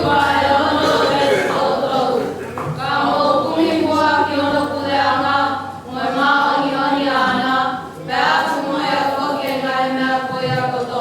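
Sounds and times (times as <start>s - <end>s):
group singing in harmony: 0.0s - 11.0s.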